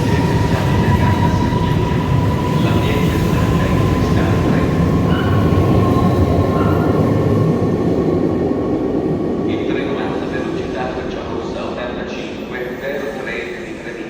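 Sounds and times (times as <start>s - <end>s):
train wheels rumbling on rail: 0.0s - 13.2s.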